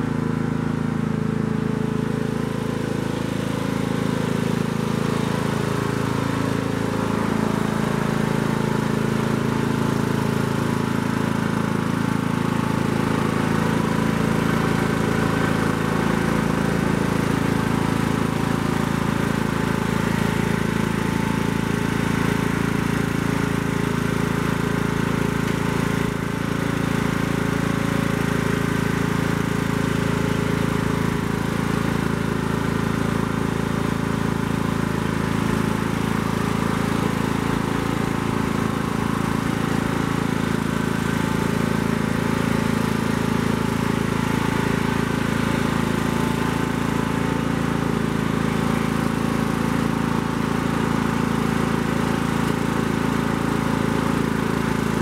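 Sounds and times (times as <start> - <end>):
riding lawn mower engine running: 0.0 - 55.0.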